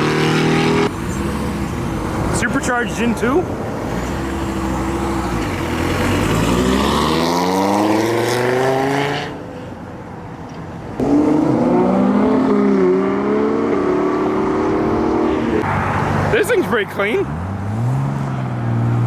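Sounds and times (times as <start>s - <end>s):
car engine accelerating: 0.0s - 9.3s, 11.0s - 16.4s, 17.2s - 19.0s
loud car engine: 0.0s - 9.5s, 11.0s - 19.0s.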